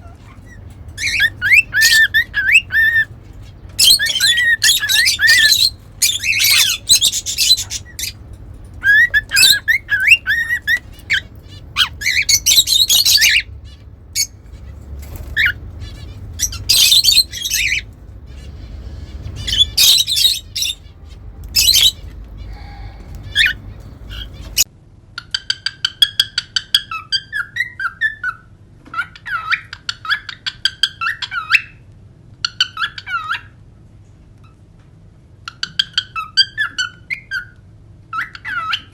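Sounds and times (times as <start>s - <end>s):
cockatiels calling and whistling: 0.0s - 24.7s, 25.4s - 31.8s, 32.4s - 33.5s, 35.5s - 38.9s.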